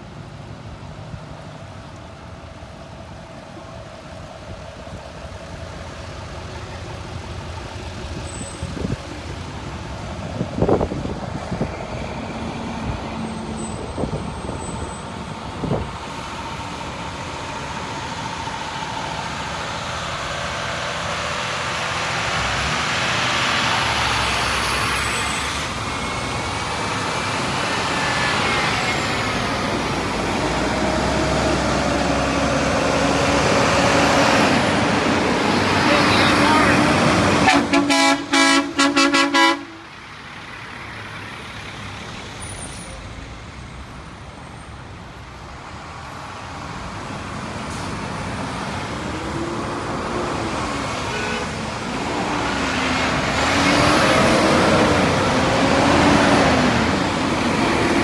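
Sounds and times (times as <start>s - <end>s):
truck engines: 0.0s - 58.0s.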